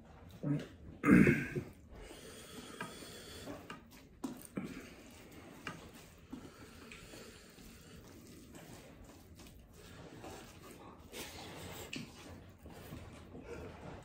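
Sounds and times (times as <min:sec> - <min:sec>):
hand squishing rice: 0:02.2 - 0:14.0.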